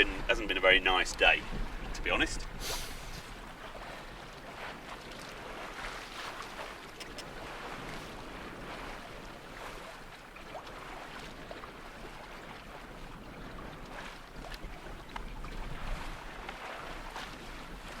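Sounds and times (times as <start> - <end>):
wind buffeting microphone: 0.0 - 10.2, 10.8 - 18.0
water washing along hull: 0.0 - 18.0.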